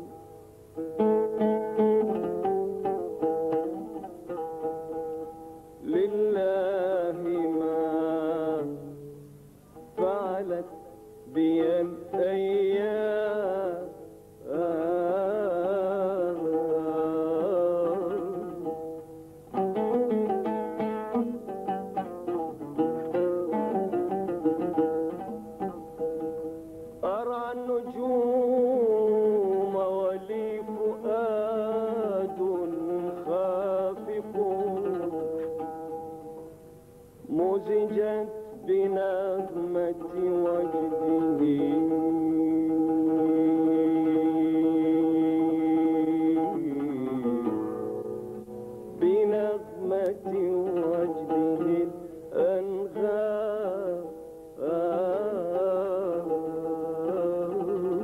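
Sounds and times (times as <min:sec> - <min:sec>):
man singing ornamented phrases: 0:00.0 - 0:36.3, 0:37.2 - 0:48.2, 0:48.9 - 0:58.0
oud playing: 0:00.0 - 0:58.0.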